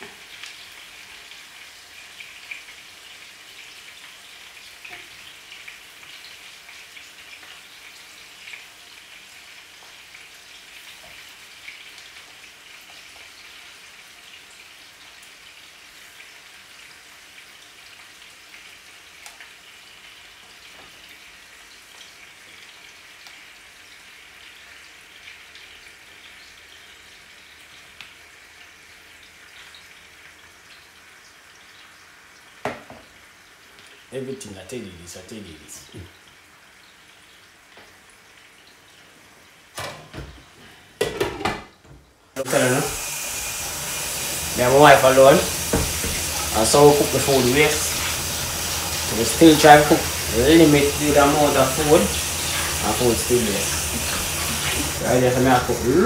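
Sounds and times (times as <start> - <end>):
chicken frying in oil: 0.0 - 39.9, 42.3 - 56.0.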